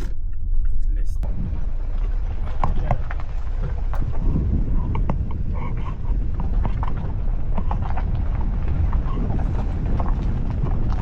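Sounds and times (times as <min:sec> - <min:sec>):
vehicle road rumble: 0:00.0 - 0:11.0.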